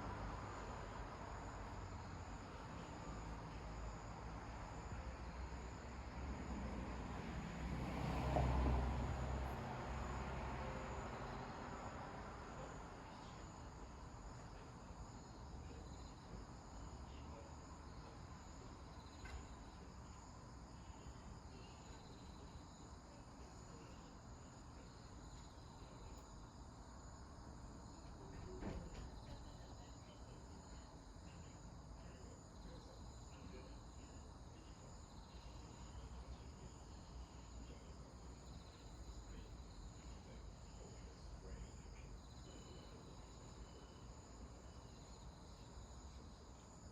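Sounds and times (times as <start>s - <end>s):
crickets chirring: 0.0s - 46.9s.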